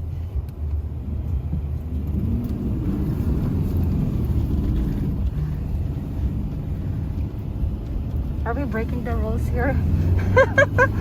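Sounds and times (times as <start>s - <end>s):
car engine wavering: 0.0s - 11.0s
road rumble: 0.0s - 11.0s.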